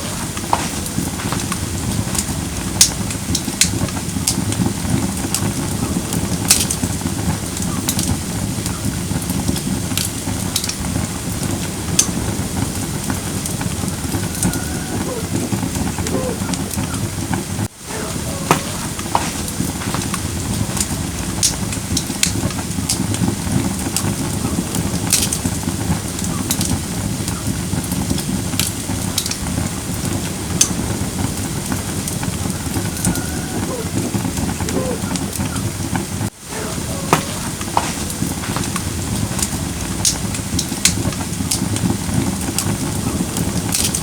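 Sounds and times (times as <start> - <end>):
fire crackles and pops: 0.0 - 44.0
low rush of flame: 0.0 - 44.0.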